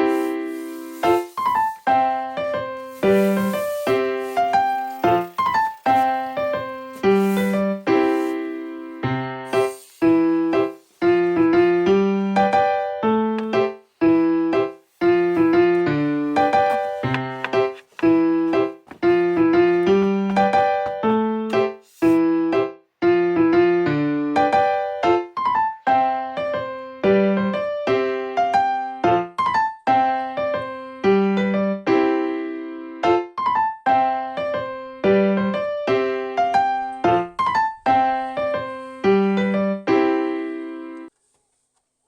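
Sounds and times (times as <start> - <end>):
piano melody: 0.0 - 41.1.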